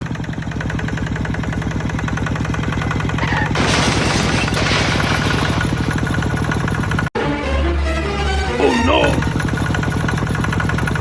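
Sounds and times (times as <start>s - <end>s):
small engine puttering: 0.0s - 7.1s, 9.0s - 11.0s.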